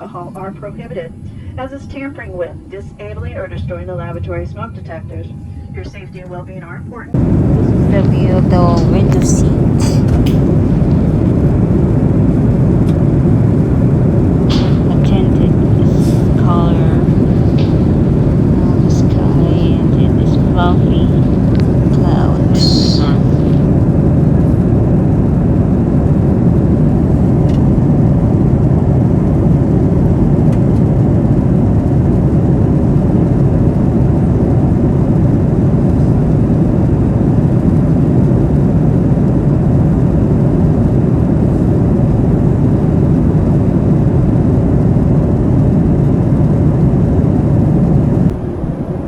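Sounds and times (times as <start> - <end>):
faint steady hum: 0.0 - 49.0
jet engine cabin rumble: 0.0 - 49.0.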